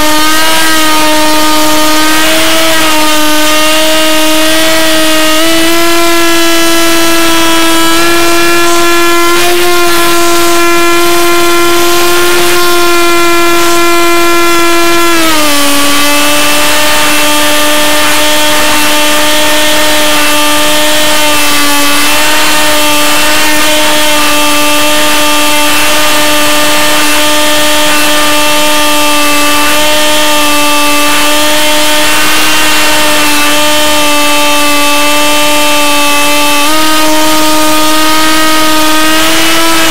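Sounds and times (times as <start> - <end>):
model plane motor buzzing: 0.0 - 39.9.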